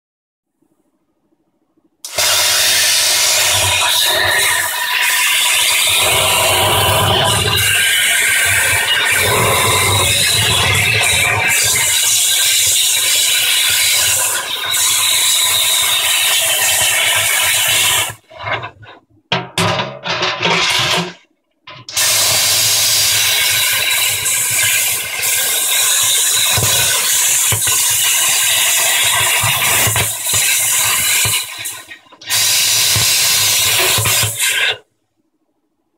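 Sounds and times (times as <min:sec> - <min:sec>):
plasma cutter hissing: 0:02.1 - 0:18.2, 0:22.0 - 0:34.8.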